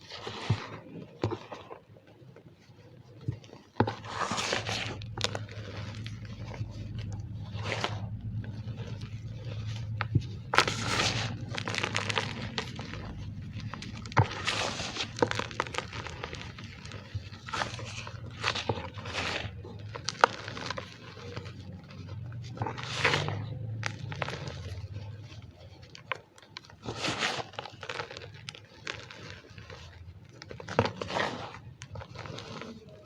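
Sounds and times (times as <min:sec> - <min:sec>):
chalk squeaky crunches: 0:03.6 - 0:33.0.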